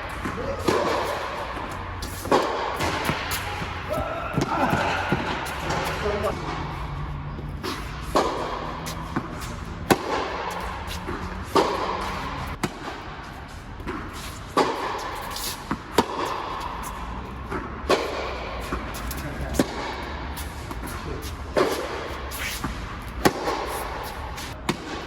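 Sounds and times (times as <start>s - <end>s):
tennis ball bouncing on court: 0.0s - 20.1s, 20.7s - 25.0s
tennis racquets hitting ball: 0.0s - 25.0s.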